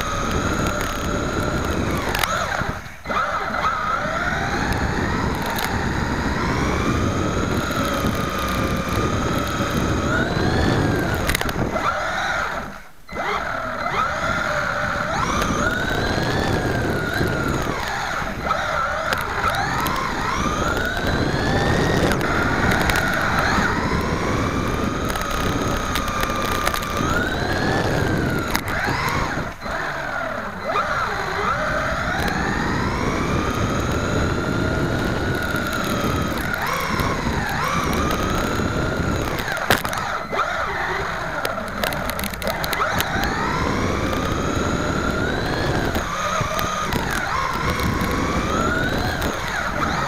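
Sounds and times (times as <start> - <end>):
toy truck motor whine: 0.0 - 50.0.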